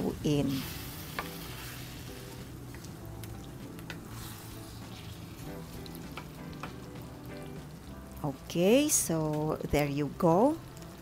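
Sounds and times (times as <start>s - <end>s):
meat and sauce sizzling in wok: 0.0s - 9.6s.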